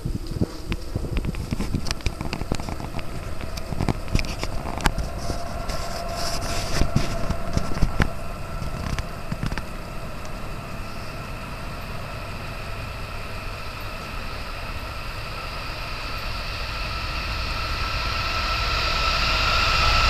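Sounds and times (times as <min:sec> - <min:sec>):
crackles and knocks: 0:00.0 - 0:16.4
faint steady hum: 0:00.0 - 0:20.0
wind rumbling on microphone: 0:00.0 - 0:20.0.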